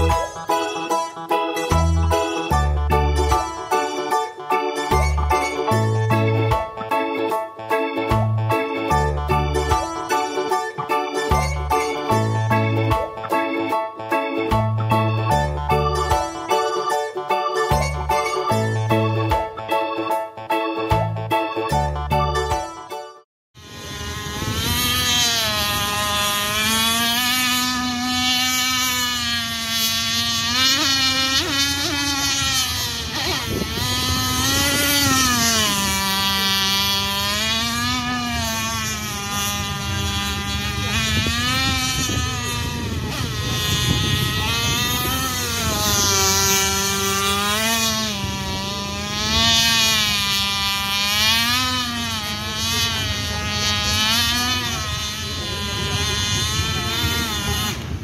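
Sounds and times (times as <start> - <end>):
model speedboat engine running: 0.0 - 20.1, 23.6 - 58.0.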